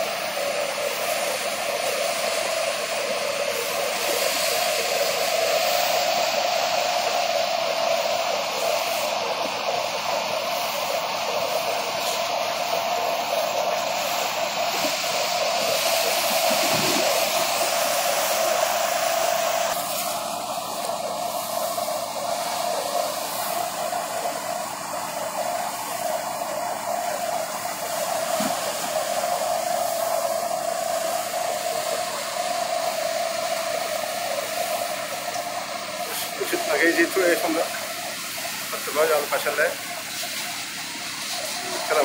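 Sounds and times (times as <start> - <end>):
rushing hiss of threshing drum: 0.0 - 42.0
thresher whirring hum: 0.0 - 42.0.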